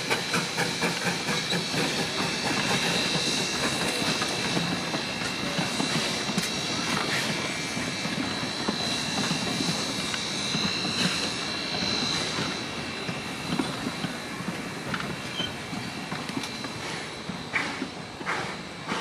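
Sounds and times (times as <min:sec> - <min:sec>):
train wheels rumbling: 0:00.0 - 0:19.0
steady high-pitched whine: 0:02.1 - 0:18.9.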